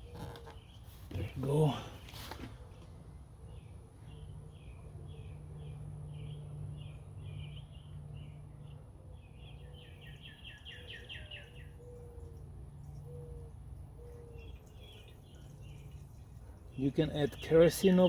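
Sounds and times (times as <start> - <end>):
low background hum: 0.0 - 18.0
small birds chirping: 0.0 - 18.0.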